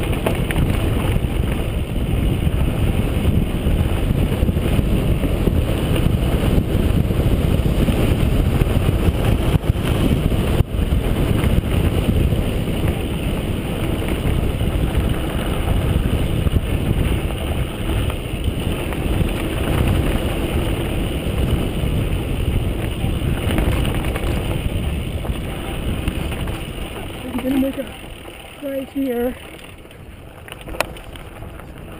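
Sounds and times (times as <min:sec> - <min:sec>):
bike rattling: 0:00.0 - 0:31.9
bike tyres rolling over dirt: 0:00.0 - 0:31.9
wind noise on microphone: 0:00.0 - 0:31.9.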